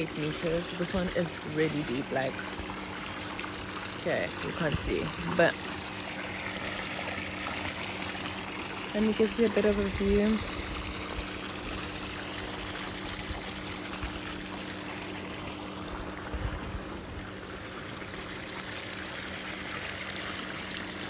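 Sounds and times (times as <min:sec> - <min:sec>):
water running and trickling: 0:00.0 - 0:21.0.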